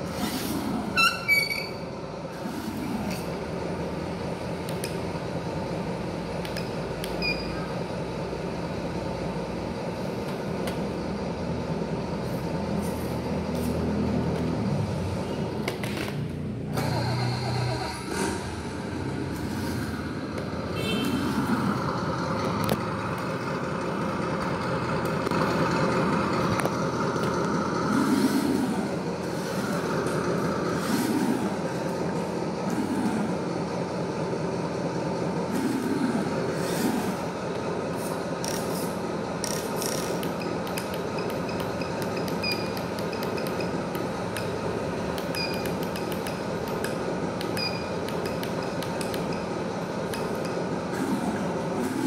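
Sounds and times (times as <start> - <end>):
simulated truck engine from small speaker: 0.0 - 52.0.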